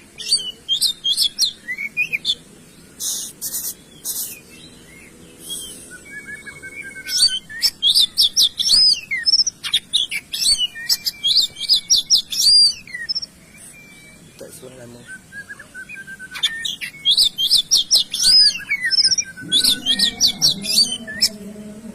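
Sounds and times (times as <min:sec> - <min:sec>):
songbird chirping: 0:00.0 - 0:21.9.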